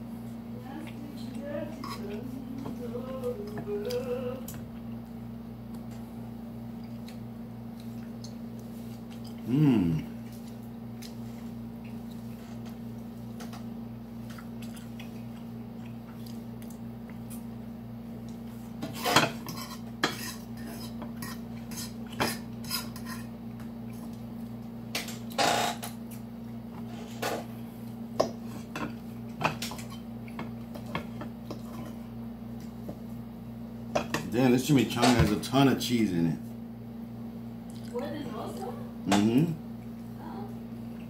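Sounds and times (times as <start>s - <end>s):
low electrical hum: 0.0s - 41.0s.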